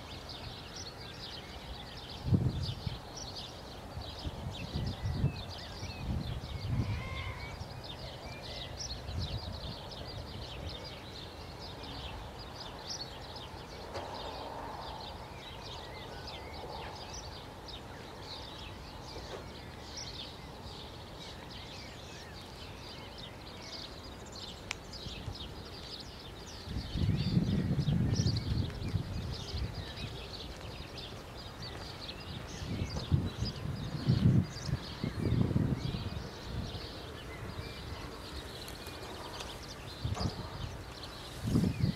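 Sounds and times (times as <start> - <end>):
faint outdoor hiss: 0.0 - 41.9
songbirds chirping: 0.0 - 41.9.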